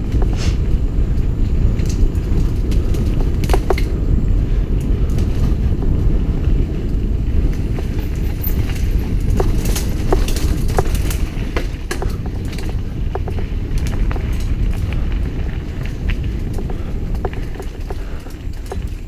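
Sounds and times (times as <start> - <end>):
bike clicks and rattles: 0.0 - 19.0
bike tyres rumbling on dirt: 0.0 - 19.0
wind on microphone: 0.0 - 19.0.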